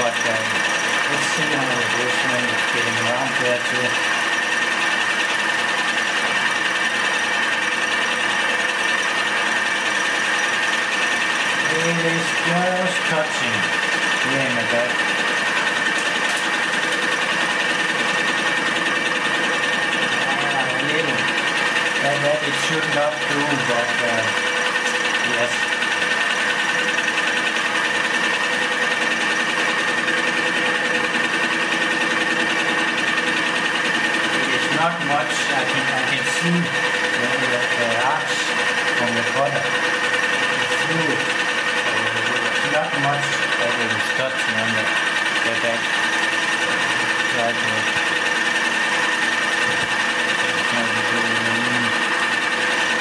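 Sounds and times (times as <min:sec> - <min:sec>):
milling machine motor hum: 0:00.0 - 0:53.0
milling machine whine: 0:00.0 - 0:53.0.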